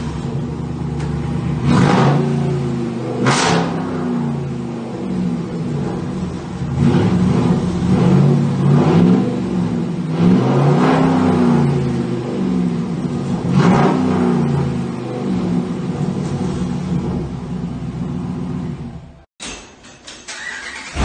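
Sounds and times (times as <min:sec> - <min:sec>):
truck engine revving: 0:00.0 - 0:17.3.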